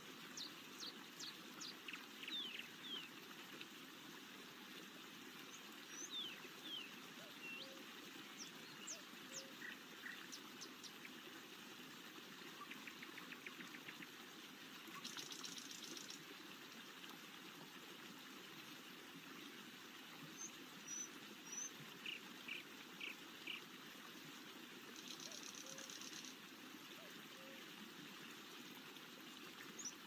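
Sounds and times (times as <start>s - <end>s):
faint running water: 0.0s - 30.0s.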